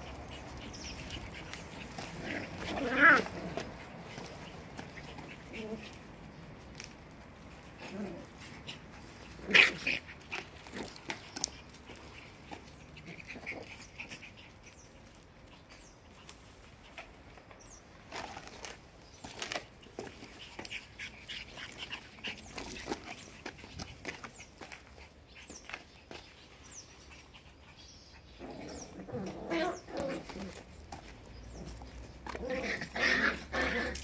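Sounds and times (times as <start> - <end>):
puppies scuffling: 0.0 - 34.0.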